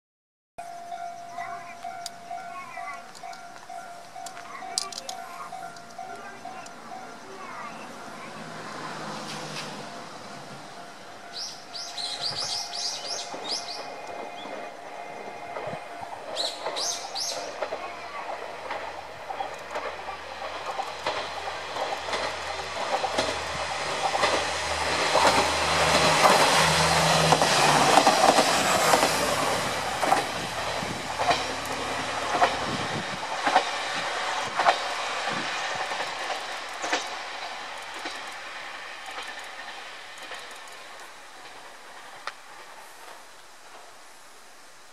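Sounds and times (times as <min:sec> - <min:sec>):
wheels clacking over rail joints: 0:00.6 - 0:44.0.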